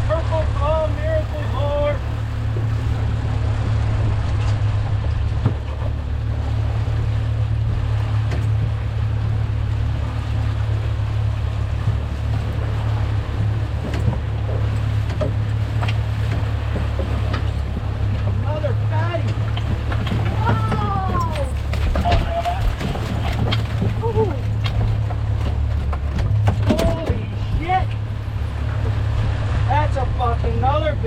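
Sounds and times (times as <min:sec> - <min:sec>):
outboard motor droning: 0:00.0 - 0:31.0
water washing against hull: 0:00.0 - 0:31.0.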